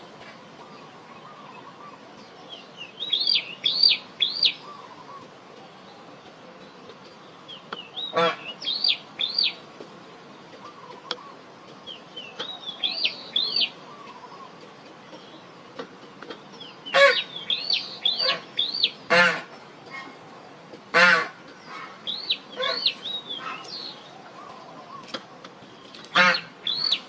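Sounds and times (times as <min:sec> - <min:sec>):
songbird chirping: 0:00.0 - 0:27.0
bird harsh calls: 0:00.6 - 0:06.2, 0:07.5 - 0:09.7, 0:10.6 - 0:15.4, 0:16.6 - 0:20.2, 0:21.0 - 0:27.0.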